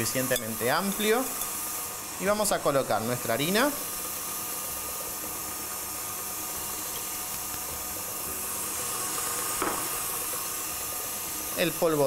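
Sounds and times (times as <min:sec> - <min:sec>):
stand mixer whirring: 0:01.8 - 0:12.0.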